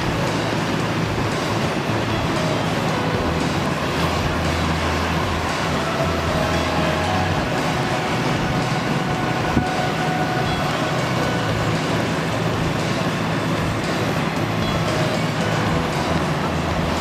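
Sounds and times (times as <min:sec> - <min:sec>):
aircraft engine roar: 0:00.0 - 0:17.0
low hum: 0:00.0 - 0:17.0.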